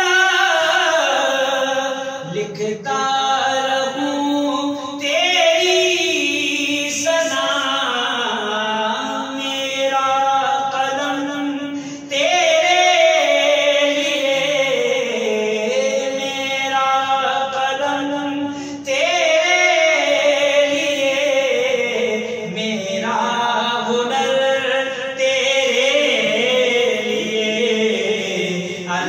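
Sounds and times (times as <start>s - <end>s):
man singing devotional song: 0.0s - 29.0s.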